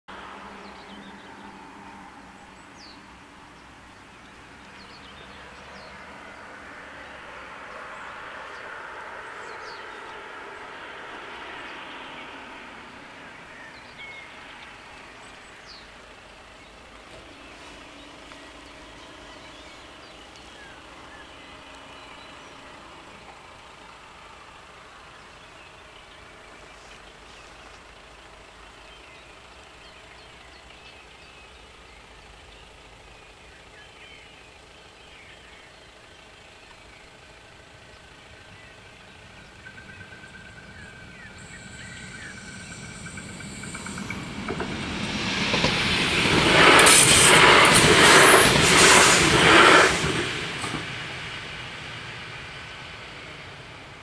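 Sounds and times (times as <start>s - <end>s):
passing vehicle tyre noise: 0.1s - 30.2s, 31.8s - 54.0s
traffic noise: 0.1s - 54.0s
birds chirping: 0.5s - 54.0s.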